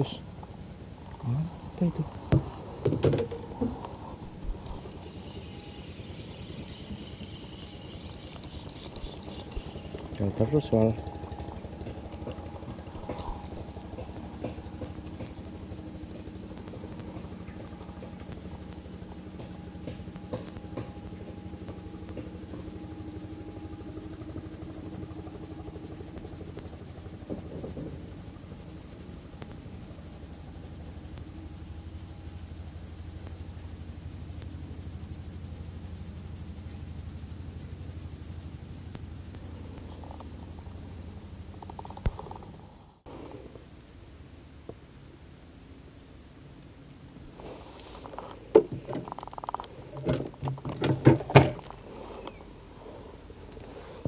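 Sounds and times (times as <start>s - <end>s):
insect chorus shrill buzzing: 0.0s - 54.0s.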